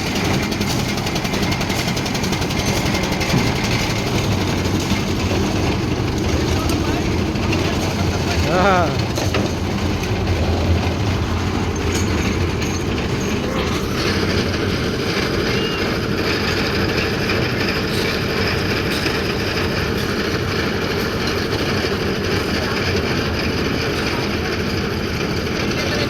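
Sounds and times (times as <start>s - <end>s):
concrete mixer running: 0.0s - 26.0s.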